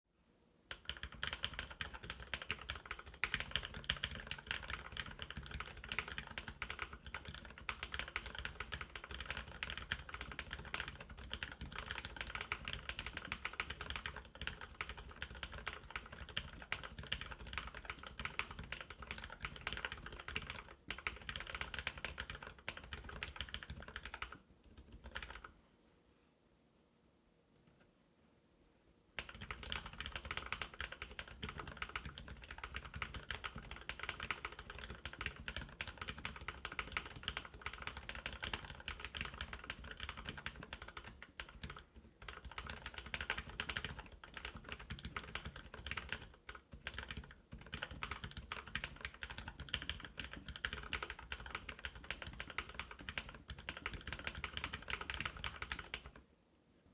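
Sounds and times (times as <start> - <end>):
mechanical keyboard typing: 0.7 - 25.5, 29.2 - 56.2.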